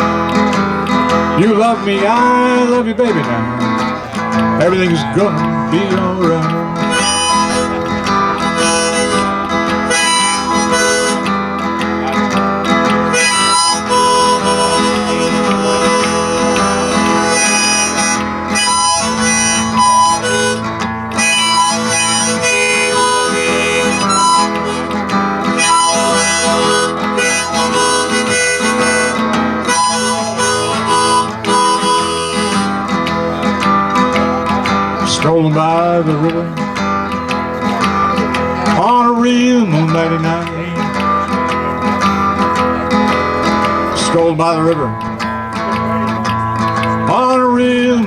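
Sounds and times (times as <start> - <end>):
acoustic guitar: 0.0 - 48.0
blues harmonica solo: 2.1 - 35.0, 39.8 - 48.0.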